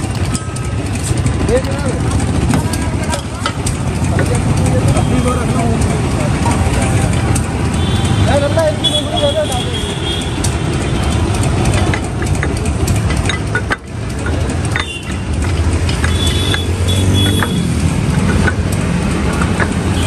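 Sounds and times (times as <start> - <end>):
traffic clatter: 0.0 - 20.0
vehicle engines running: 0.0 - 20.0.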